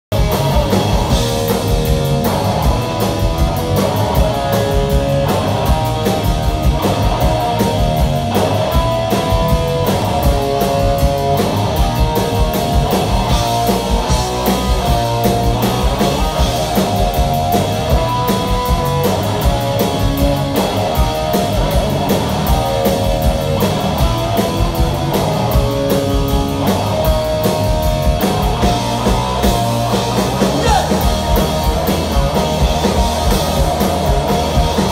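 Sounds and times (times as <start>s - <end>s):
electric bass: 0.0s - 34.9s
drum kit fast beat: 0.1s - 34.9s
electric guitar: 0.1s - 34.9s.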